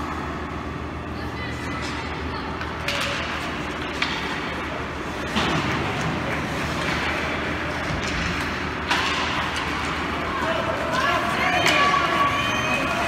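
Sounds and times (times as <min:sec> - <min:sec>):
hockey play and spectator noise: 0:00.0 - 0:13.0.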